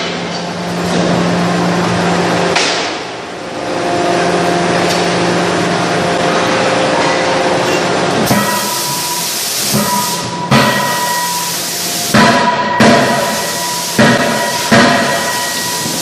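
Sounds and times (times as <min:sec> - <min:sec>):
forging press machinery humming: 0:00.0 - 0:16.0.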